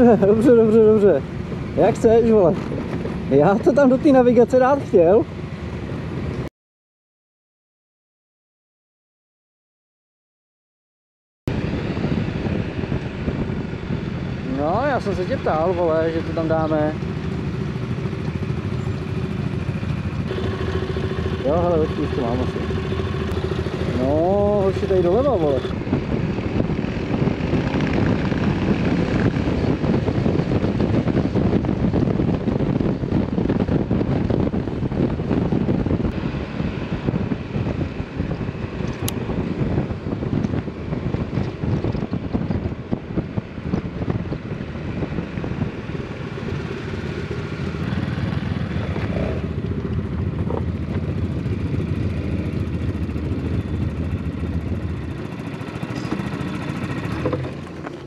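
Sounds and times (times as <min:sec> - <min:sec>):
wind rushing over microphone: 0:00.0 - 0:06.5, 0:11.5 - 0:58.0
motorcycle engine running: 0:11.5 - 0:58.0.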